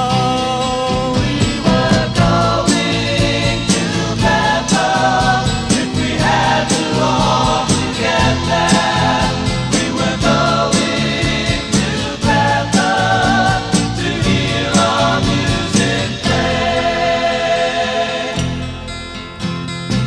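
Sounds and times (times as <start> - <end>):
rock band playing: 1.0 - 17.1
group voices singing: 1.0 - 18.9.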